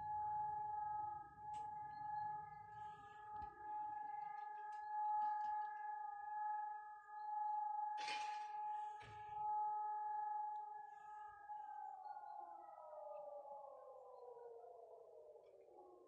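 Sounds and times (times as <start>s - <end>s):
air raid siren: 0.0s - 16.0s.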